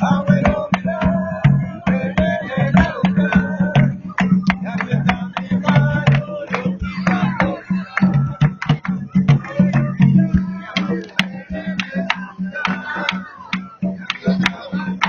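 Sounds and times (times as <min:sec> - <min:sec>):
deep drum tone: 0:00.0 - 0:15.0
drums in fast rhythm: 0:00.0 - 0:15.0.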